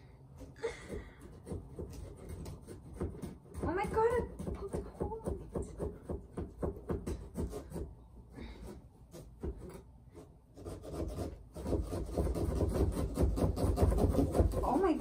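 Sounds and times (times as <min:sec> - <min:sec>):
carving tools sawing pumpkin: 0:00.1 - 0:15.0.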